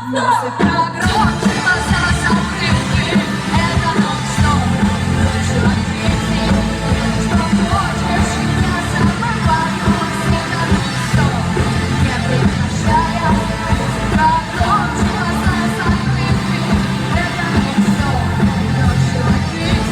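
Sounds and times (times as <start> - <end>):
pop band music with singer: 0.0 - 19.9.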